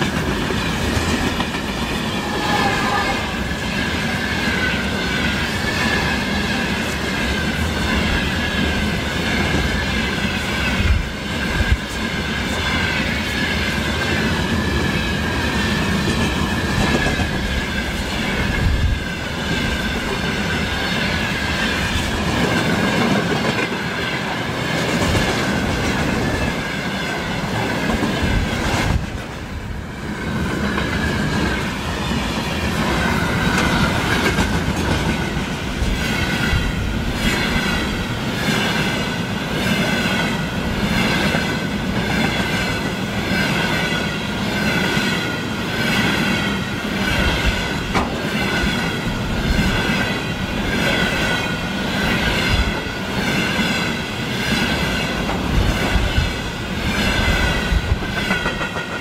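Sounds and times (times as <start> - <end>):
freight train rolling past: 0.0 - 59.0
high whine of wheels on rails: 0.0 - 59.0
train wheels clicking: 0.0 - 59.0.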